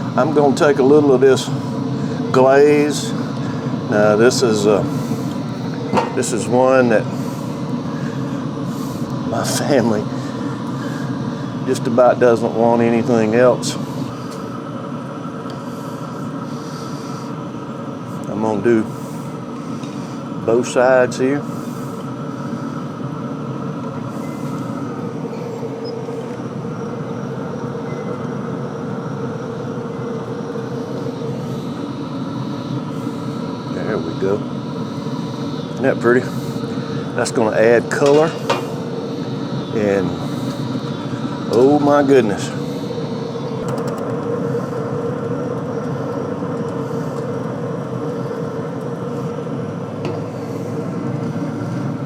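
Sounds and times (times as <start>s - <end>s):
combustion fan whirring hum: 0.0s - 52.0s.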